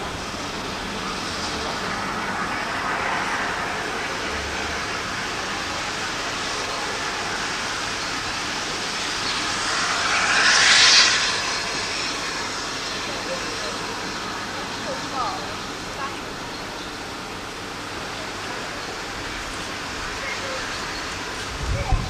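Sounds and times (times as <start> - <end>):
steam locomotive exhaust thrashing: 0.0 - 22.0.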